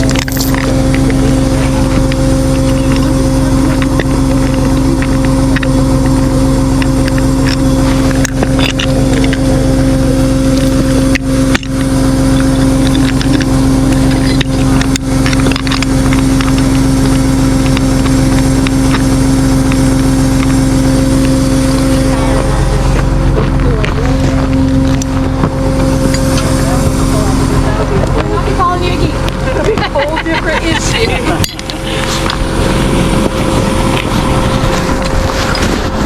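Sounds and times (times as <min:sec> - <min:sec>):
truck engine droning: 0:00.0 - 0:36.0.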